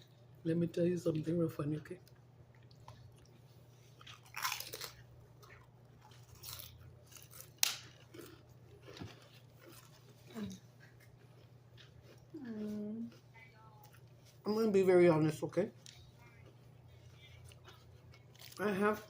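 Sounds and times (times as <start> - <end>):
person chewing food: 2.0 - 14.4, 15.8 - 19.0
food crunching: 2.0 - 14.7, 15.8 - 19.0.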